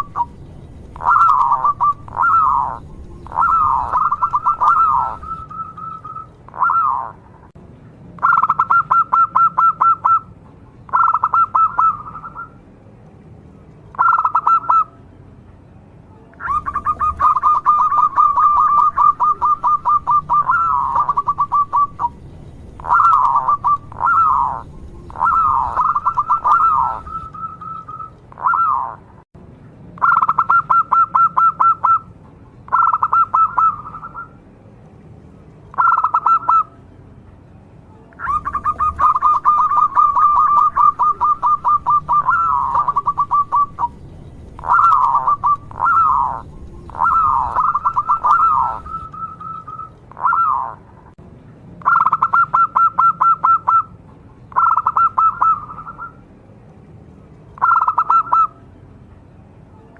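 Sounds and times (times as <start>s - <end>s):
dove cooing in rattling trains: 0.0s - 7.5s, 8.2s - 12.6s, 16.1s - 29.2s, 30.0s - 34.4s, 37.9s - 51.1s, 51.8s - 56.2s, 57.6s - 58.6s.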